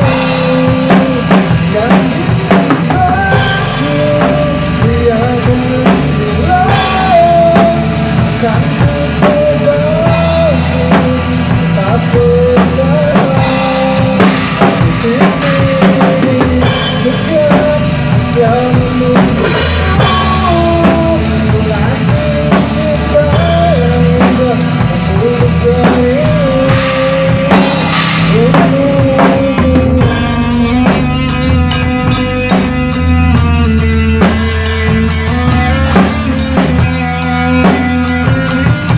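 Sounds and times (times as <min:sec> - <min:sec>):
acoustic drum kit: 0:00.0 - 0:38.9
rock backing track: 0:00.0 - 0:38.9
sliding lead melody: 0:00.0 - 0:38.9.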